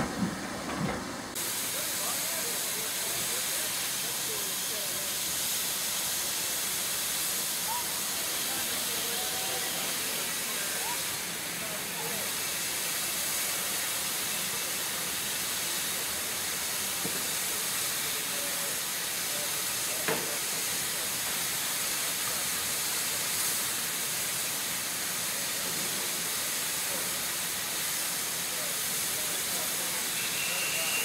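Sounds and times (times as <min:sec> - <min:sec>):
steam locomotive hissing steam: 0:00.0 - 0:31.0.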